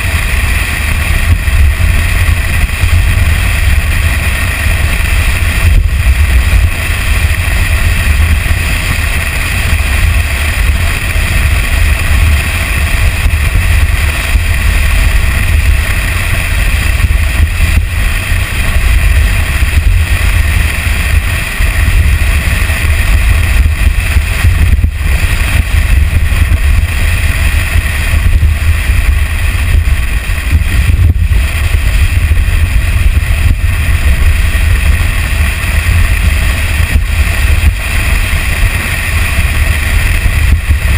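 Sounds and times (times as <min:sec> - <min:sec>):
truck engine rumble: 0:00.0 - 0:40.9
tyres on dirt trail: 0:00.0 - 0:40.9
wind on microphone: 0:00.0 - 0:40.9.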